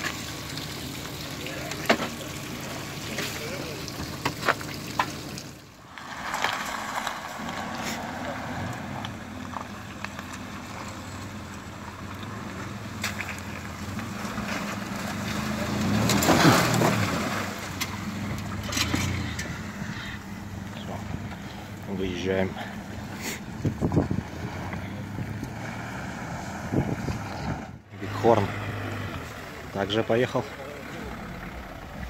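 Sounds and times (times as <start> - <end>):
suv engine revving: 0.0 - 32.0.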